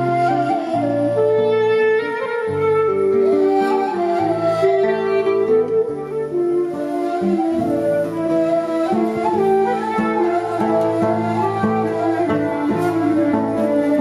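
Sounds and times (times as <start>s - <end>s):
flute-like melody: 0.0s - 14.0s.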